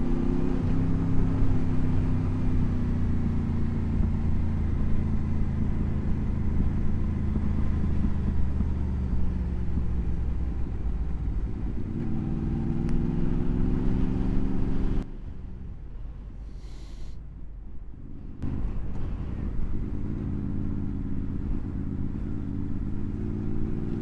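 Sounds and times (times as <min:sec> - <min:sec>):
motorcycle engine accelerating: 0:00.0 - 0:15.6, 0:18.0 - 0:24.0.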